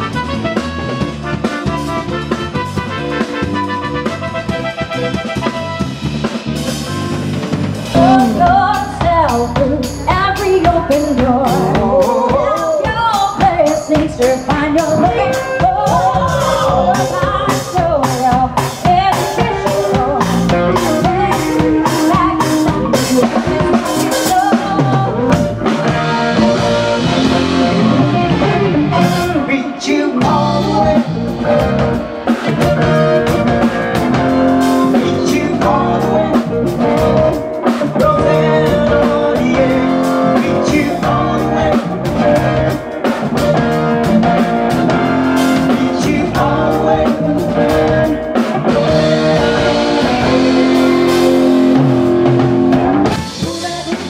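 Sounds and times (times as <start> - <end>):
live band playing: 0.0 - 54.0
person singing: 7.9 - 52.4, 53.0 - 54.0.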